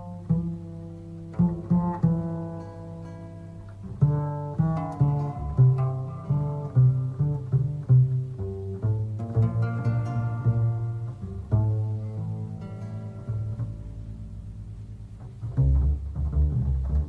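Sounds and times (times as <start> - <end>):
jazz with plucked strings: 0.0 - 17.0
plucked bass line: 0.0 - 17.0.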